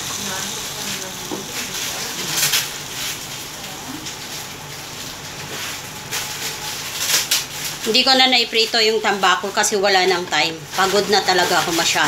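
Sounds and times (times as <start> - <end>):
liquid hissing in a pot: 0.0 - 12.0.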